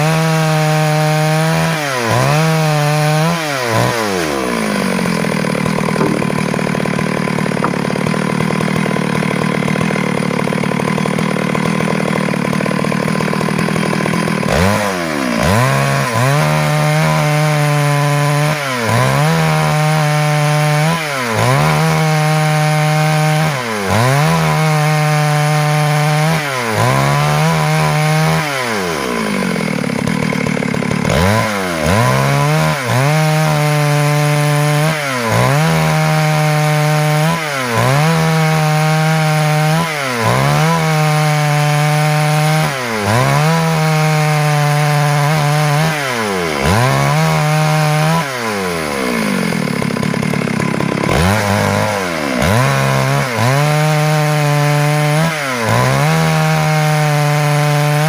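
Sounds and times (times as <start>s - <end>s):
chainsaw sawing wood: 0.0s - 58.0s.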